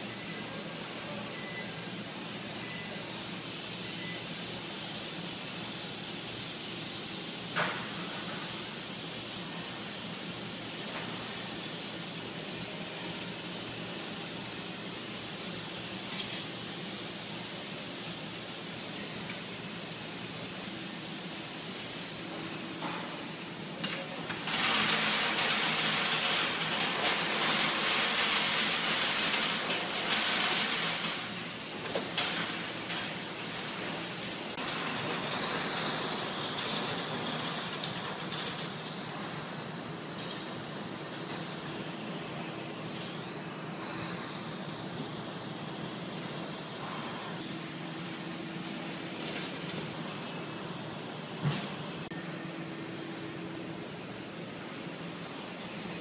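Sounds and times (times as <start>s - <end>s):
industrial furnace hum: 0.0s - 56.0s
steady burner hiss: 0.0s - 56.0s.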